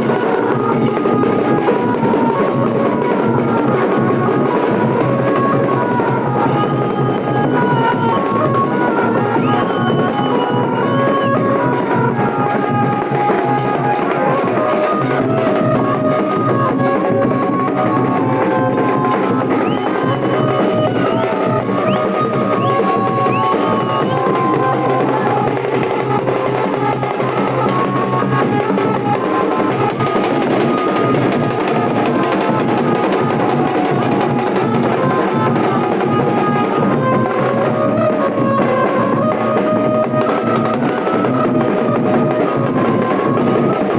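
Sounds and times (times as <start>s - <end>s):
drums in dense rhythm: 0.0s - 43.9s.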